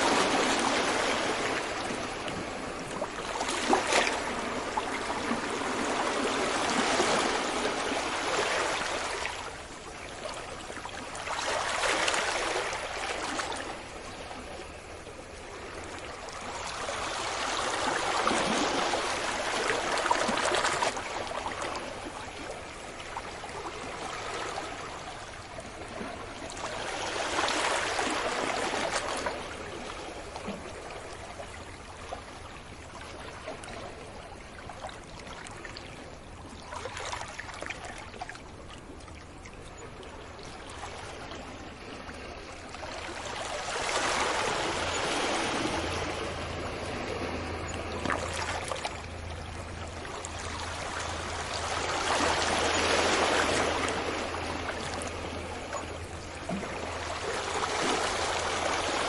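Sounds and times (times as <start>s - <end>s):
sea waves breaking on beach: 0.0s - 36.0s, 40.2s - 59.0s.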